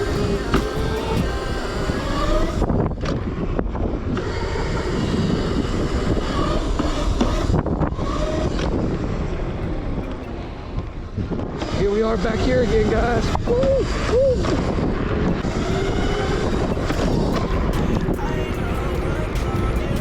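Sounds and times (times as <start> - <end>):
electric motor whine: 0.0 - 20.0
rumble: 0.0 - 20.0
wind noise: 0.0 - 20.0.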